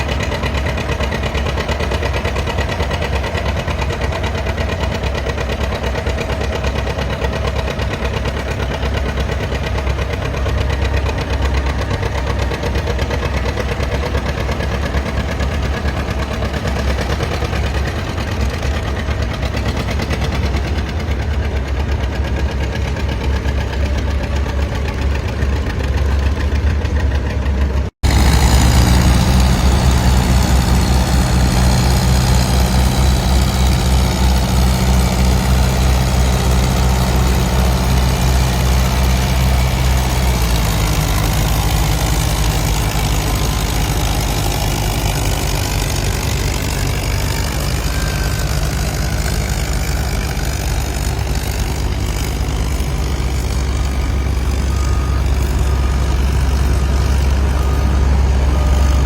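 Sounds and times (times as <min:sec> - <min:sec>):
loud engine running: 0:00.0 - 0:59.0
tractor engine running: 0:00.0 - 0:59.0.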